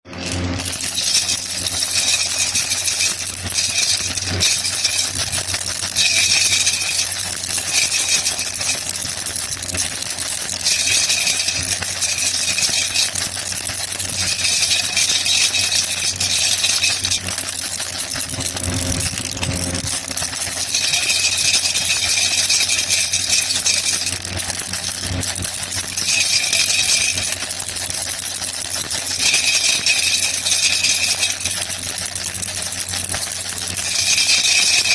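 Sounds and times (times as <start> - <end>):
baby rattle shaking: 0.1 - 34.9.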